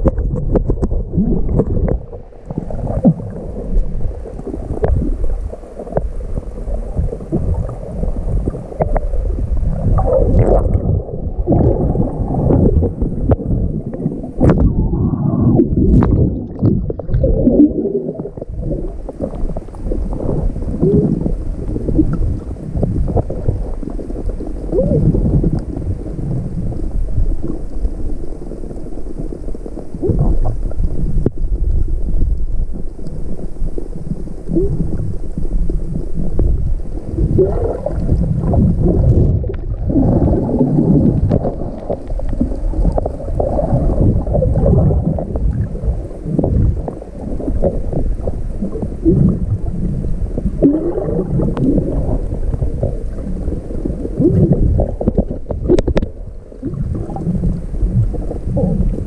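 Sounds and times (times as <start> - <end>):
muffled underwater gurgling: 0.0 - 59.0.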